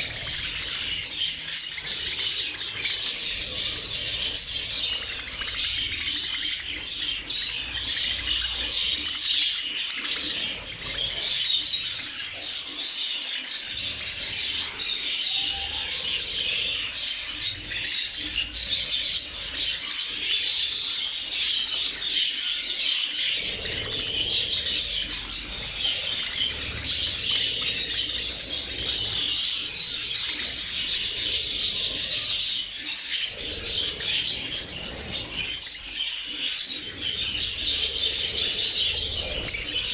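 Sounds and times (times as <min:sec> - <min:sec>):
flock of budgerigars chattering: 0:00.0 - 0:39.9.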